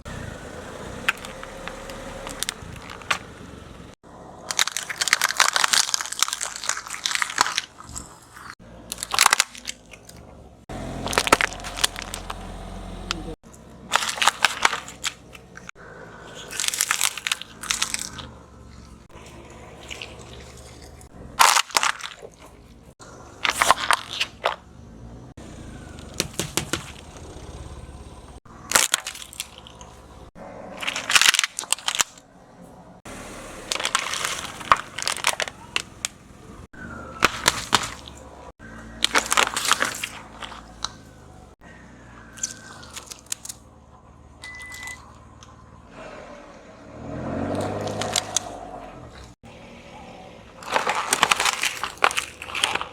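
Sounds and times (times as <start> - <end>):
objects crunching under car tyres: 0.0 - 52.9.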